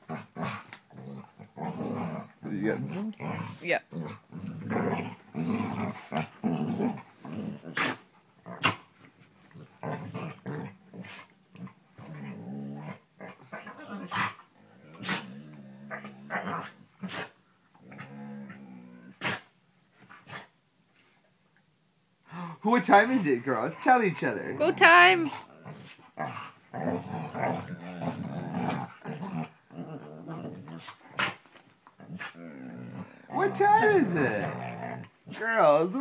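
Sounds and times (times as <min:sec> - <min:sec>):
dogs growling: 0:00.0 - 0:19.5, 0:25.2 - 0:35.5.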